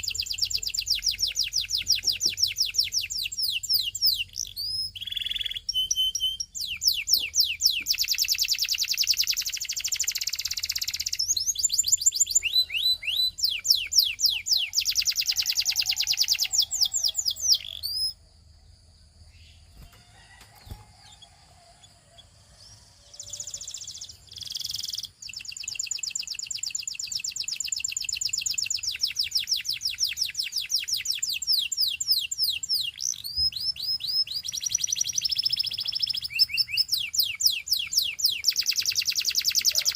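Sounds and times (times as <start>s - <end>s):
canary singing trills: 0.0s - 18.4s, 19.2s - 39.9s.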